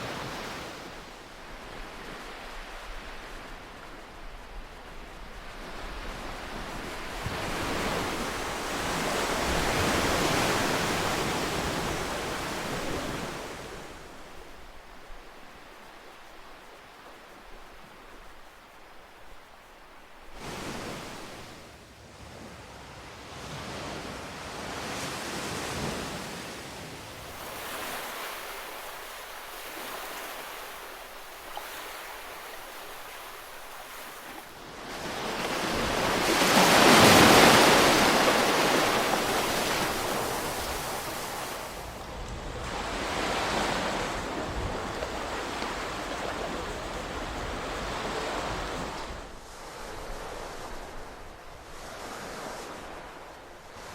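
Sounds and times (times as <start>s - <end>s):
ocean waves washing in: 0.0s - 53.9s.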